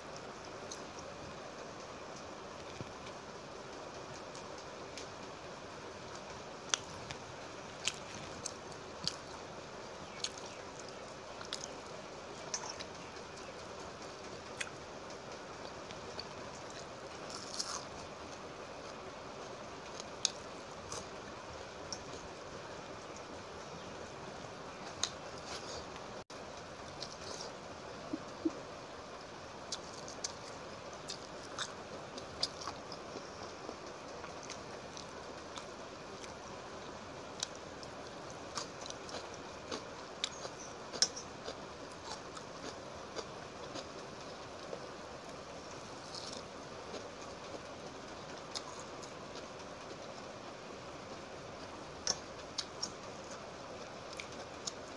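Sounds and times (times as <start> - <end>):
steady hiss: 0.0 - 54.9.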